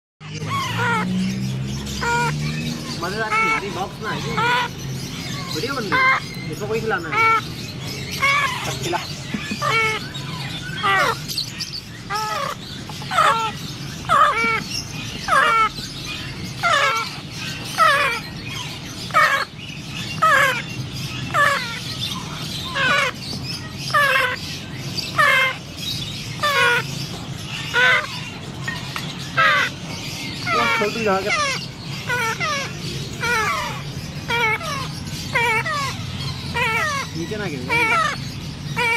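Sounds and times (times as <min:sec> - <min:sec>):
parrot chicks begging calls: 0:00.2 - 0:38.9.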